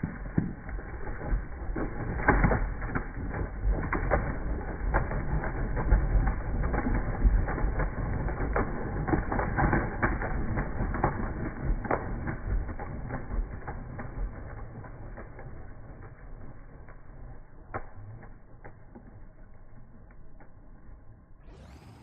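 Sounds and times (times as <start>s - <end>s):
pigeon wingbeats clattering: 0.0s - 19.2s, 21.5s - 22.0s.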